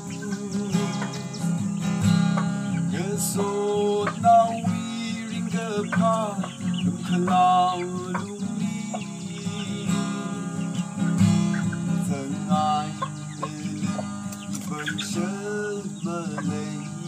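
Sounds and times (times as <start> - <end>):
man singing: 0.0 - 1.7, 2.8 - 17.0
acoustic guitar strumming: 0.0 - 17.0
chickens clucking: 0.0 - 17.0.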